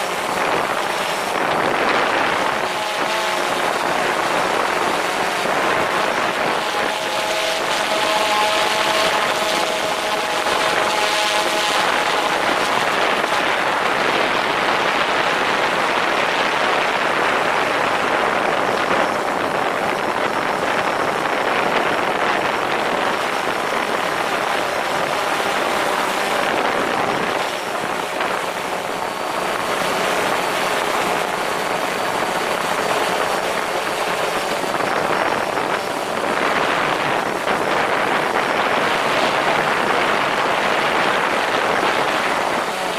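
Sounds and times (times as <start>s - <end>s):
drone propellers whirring: 0.0s - 42.9s.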